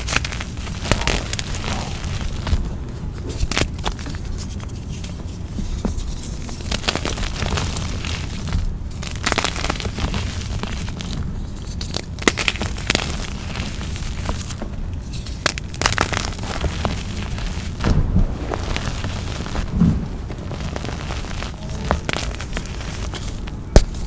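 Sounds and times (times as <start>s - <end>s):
chalk crunching by hand: 0.0s - 24.0s.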